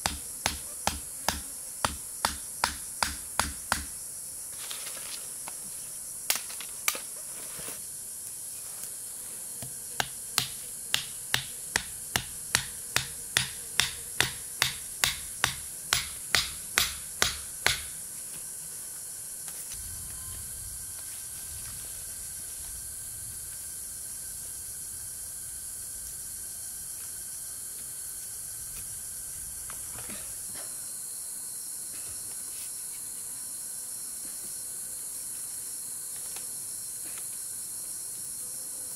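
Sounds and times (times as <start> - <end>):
steady high hiss: 0.0 - 38.4.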